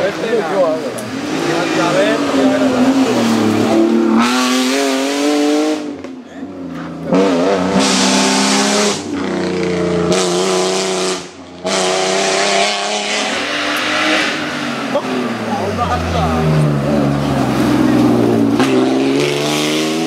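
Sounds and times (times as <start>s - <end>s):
rally car engines revving past: 0.0s - 20.0s.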